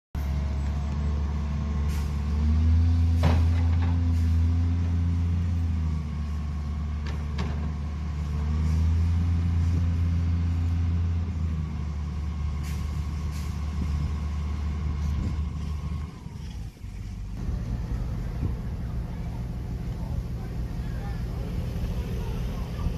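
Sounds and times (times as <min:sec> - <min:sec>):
machine engine working: 0:00.2 - 0:22.9.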